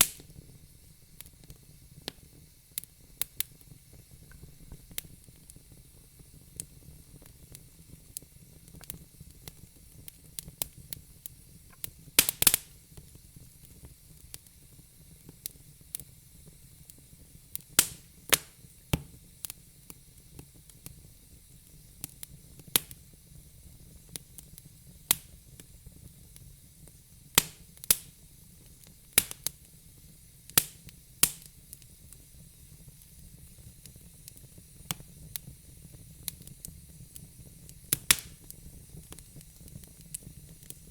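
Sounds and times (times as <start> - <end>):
burning logs crackling: 0.0 - 40.9
faint hiss: 0.0 - 40.9
sharp pops of fire: 0.0 - 40.9.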